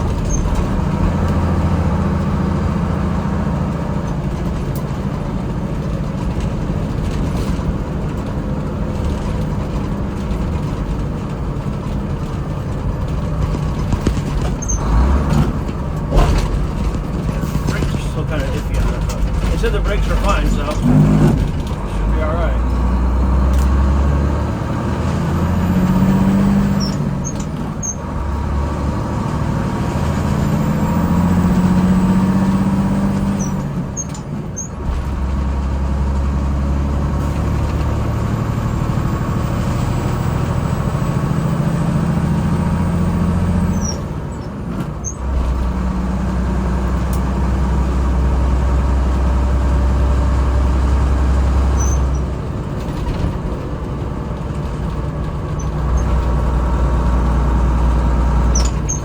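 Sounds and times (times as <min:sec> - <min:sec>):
truck engine under load: 0:00.0 - 0:59.0.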